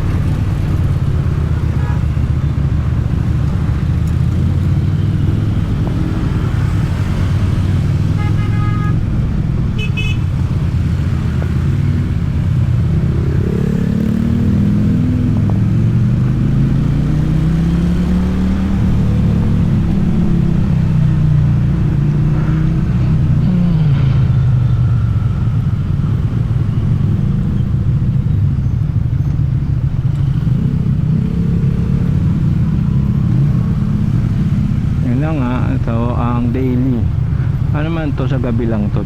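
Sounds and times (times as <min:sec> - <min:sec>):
motorcycle engine: 0:00.0 - 0:36.3.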